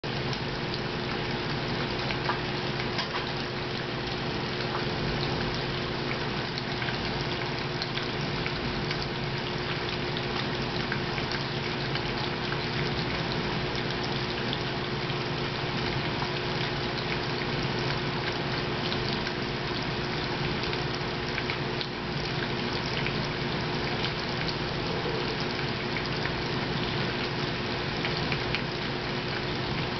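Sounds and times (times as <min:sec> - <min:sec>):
pump hum: 0:00.0 - 0:29.9.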